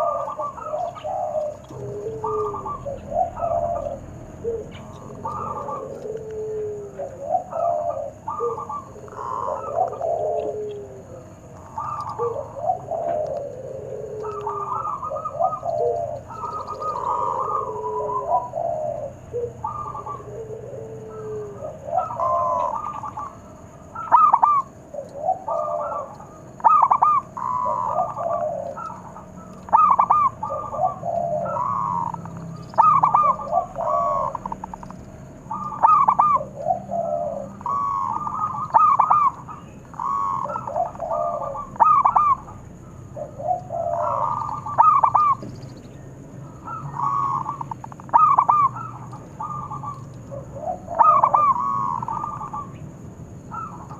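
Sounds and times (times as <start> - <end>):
doves cooing: 0.0 - 53.9.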